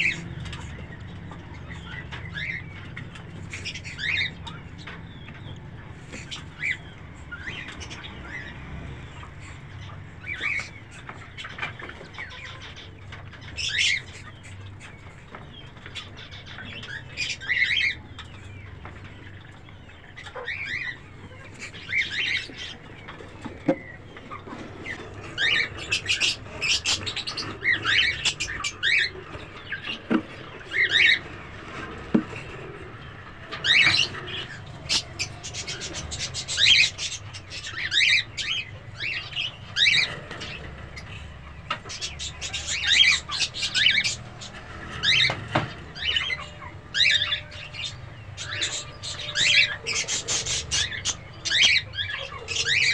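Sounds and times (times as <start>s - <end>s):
cockatiels chirping and squawking: 0.0s - 52.9s.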